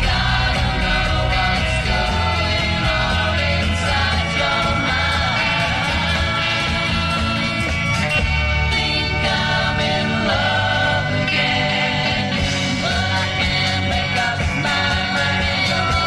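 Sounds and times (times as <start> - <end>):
beat-pop band singing: 0.0 - 16.0.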